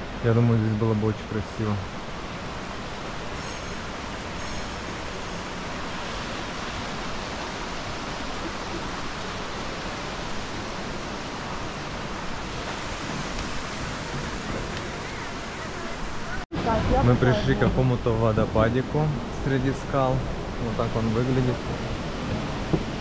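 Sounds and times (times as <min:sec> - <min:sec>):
stream flowing over rocks: 0:00.9 - 0:23.0.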